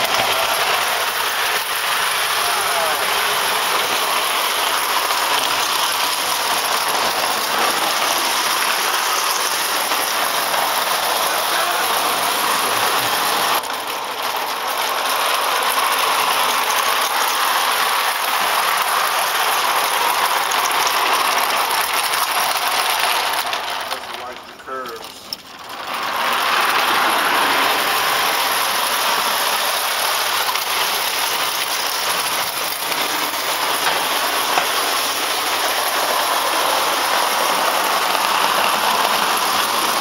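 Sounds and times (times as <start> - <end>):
clockwork gears whirring: 0.0 - 40.0
toy train wheels clattering: 0.0 - 40.0.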